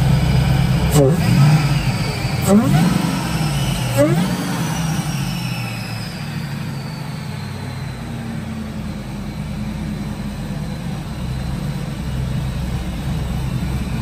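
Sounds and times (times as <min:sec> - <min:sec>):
engine idling: 0:00.0 - 0:14.0
faint high whine: 0:00.0 - 0:14.0.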